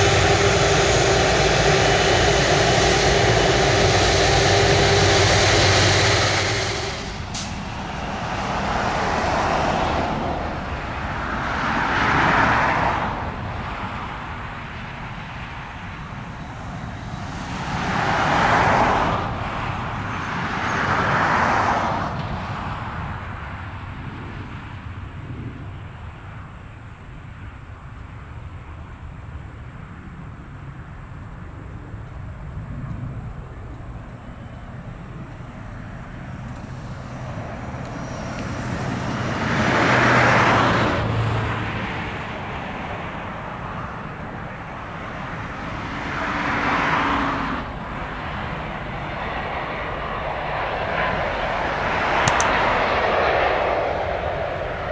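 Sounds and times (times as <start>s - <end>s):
jet aircraft noise: 0.0s - 54.9s
low traffic rumble: 0.0s - 54.9s
road vehicles passing: 0.0s - 54.9s.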